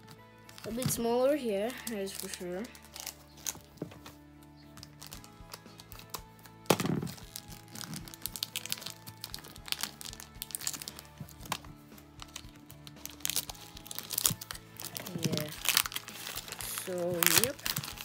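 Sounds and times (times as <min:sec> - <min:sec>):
background music: 0:00.0 - 0:18.0
plastic shrink-wrap crinkling: 0:00.0 - 0:18.0.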